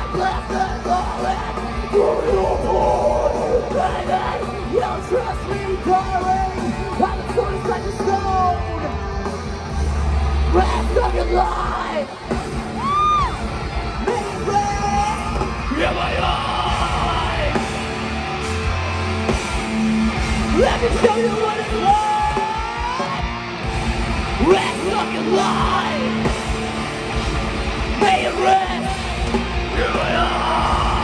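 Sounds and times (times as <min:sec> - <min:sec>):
bass: 0:00.0 - 0:31.0
distorted electric guitars: 0:00.0 - 0:31.0
drums: 0:00.0 - 0:31.0.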